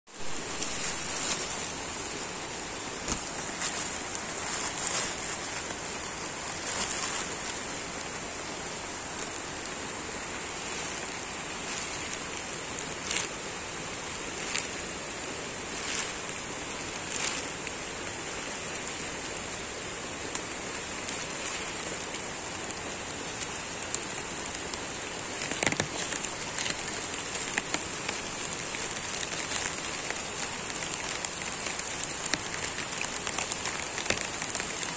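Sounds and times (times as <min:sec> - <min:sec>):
high-pitched hiss: 0:00.1 - 0:34.9
rain falling on foliage: 0:00.1 - 0:34.9.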